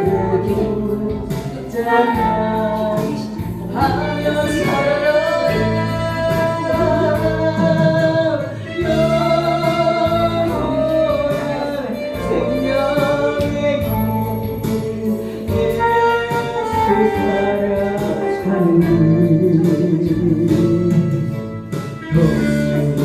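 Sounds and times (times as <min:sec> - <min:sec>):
gospel singing: 0:00.0 - 0:23.0
instrumental accompaniment: 0:00.0 - 0:23.0.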